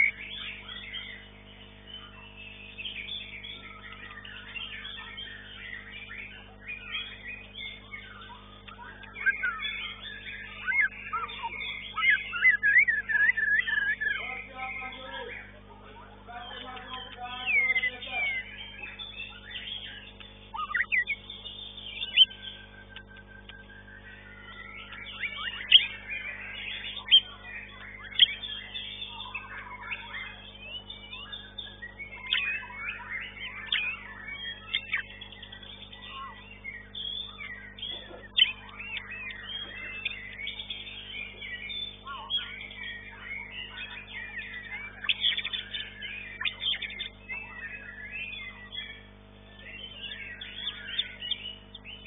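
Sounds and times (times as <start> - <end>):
bird singing whistled notes: 0.0 - 15.6, 16.3 - 52.0.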